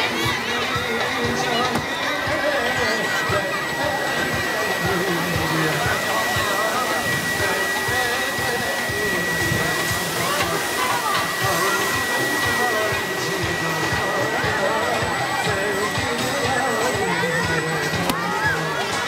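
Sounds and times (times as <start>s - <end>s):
electric air blower rushing: 0.0s - 19.0s
faint crowd voices: 0.0s - 19.0s
thin steady high tone: 0.0s - 19.0s.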